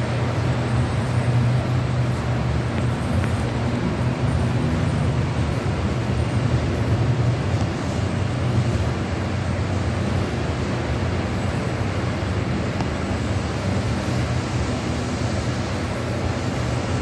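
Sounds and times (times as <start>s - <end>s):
model train rumbling: 0.0s - 17.0s.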